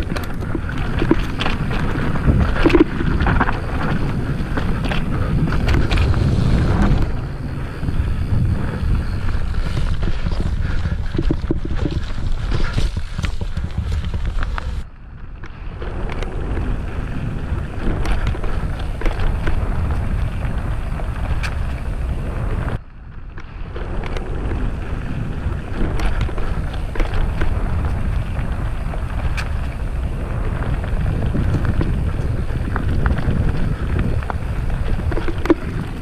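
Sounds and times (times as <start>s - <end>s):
tyres rolling over dirt: 0.0s - 14.8s, 15.5s - 22.8s, 23.6s - 36.0s
bike rattling over bumps: 0.0s - 36.0s
wind buffeting microphone: 0.0s - 36.0s.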